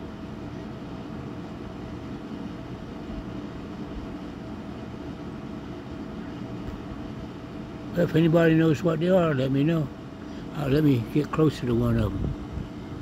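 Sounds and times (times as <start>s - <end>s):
faint hum: 0.0s - 13.0s
low mechanical drone: 0.0s - 13.0s.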